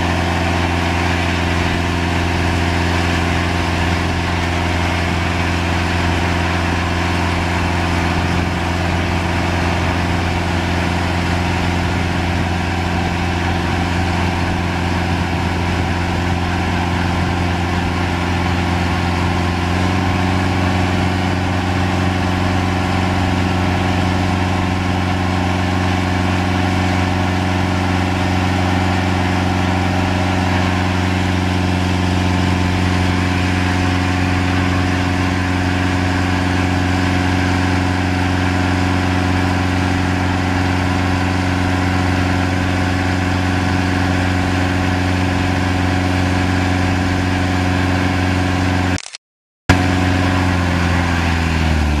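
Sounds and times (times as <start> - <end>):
diesel engine revving: 0.0 - 49.0, 49.7 - 52.0.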